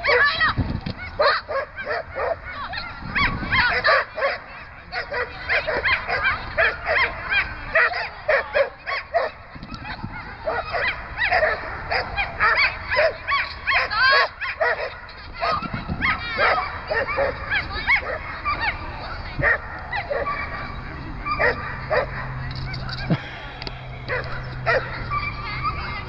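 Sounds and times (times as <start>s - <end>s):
dog barking and yipping: 1.0s - 18.8s, 19.4s - 23.2s, 24.1s - 26.0s.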